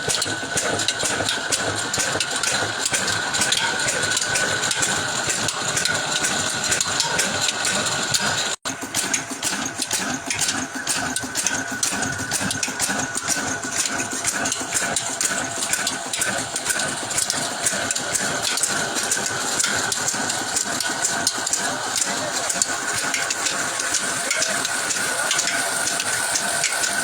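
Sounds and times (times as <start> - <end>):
water pump engine clattering: 0.0 - 27.0.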